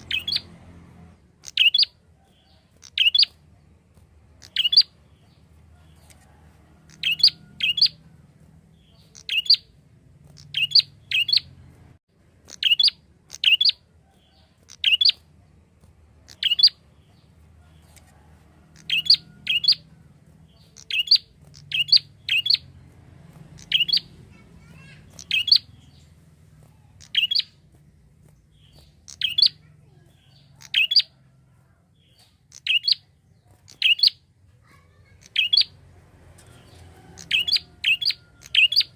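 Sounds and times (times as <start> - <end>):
bird calling with sharp chirps: 0.0 - 0.6, 1.3 - 3.4, 4.4 - 11.8, 12.4 - 15.3, 16.2 - 31.2, 31.9 - 38.9.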